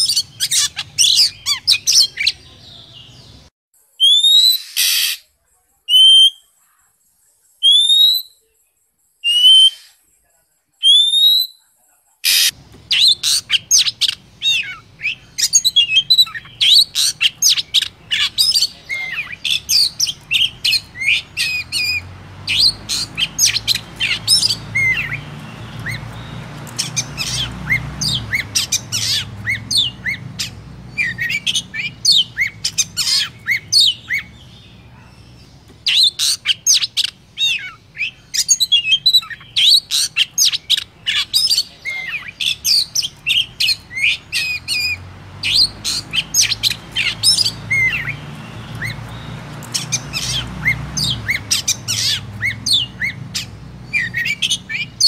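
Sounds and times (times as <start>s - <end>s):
bird whistling and chirping: 0.0s - 3.3s, 4.0s - 5.2s, 7.6s - 8.4s, 9.2s - 10.0s, 10.8s - 11.6s, 12.9s - 55.0s
faint background noise: 0.0s - 55.0s.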